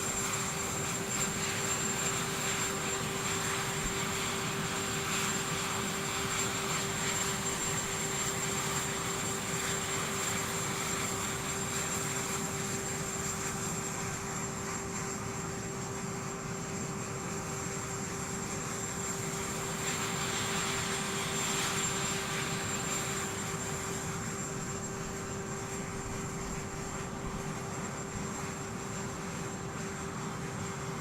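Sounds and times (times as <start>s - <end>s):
aircraft engines running: 0.0s - 31.0s.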